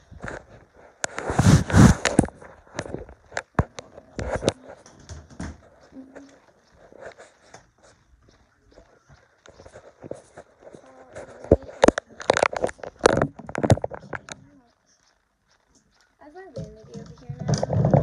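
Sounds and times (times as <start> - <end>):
phone microphone rubbing rush: 0.0 - 4.8, 5.6 - 15.6.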